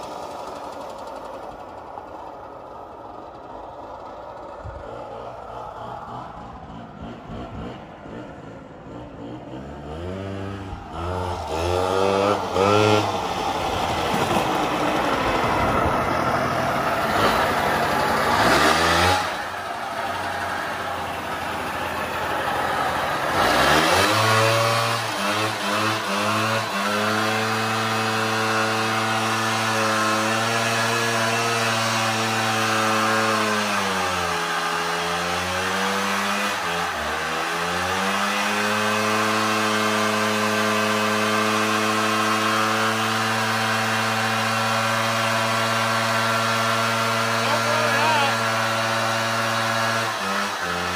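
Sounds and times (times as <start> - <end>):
quad engine running: 0.0 - 50.9.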